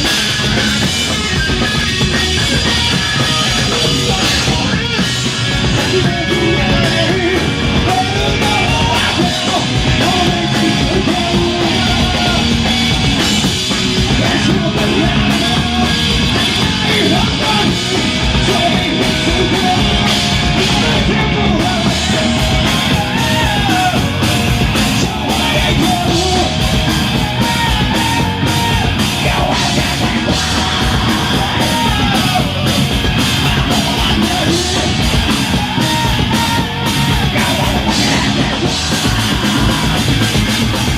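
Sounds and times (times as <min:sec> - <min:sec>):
live punk rock band: 0:00.0 - 0:40.9.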